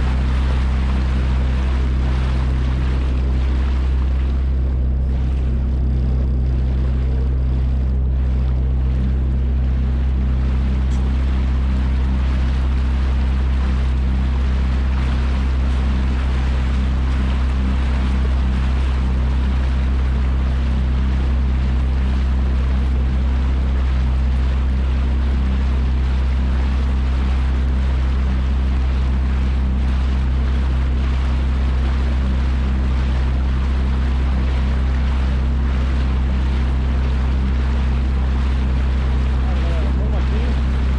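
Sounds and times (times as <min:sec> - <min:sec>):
jet ski engine running: 0:00.0 - 0:40.9
water rushing: 0:00.0 - 0:40.9.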